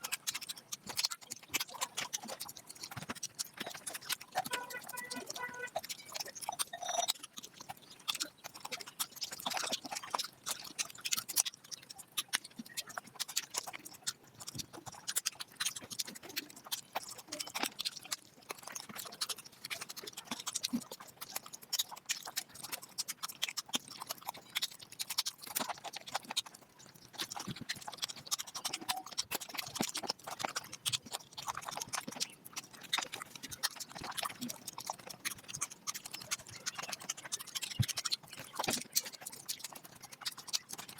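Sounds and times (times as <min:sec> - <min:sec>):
sped-up chewing and lip-smacking: 0:00.0 - 0:40.9.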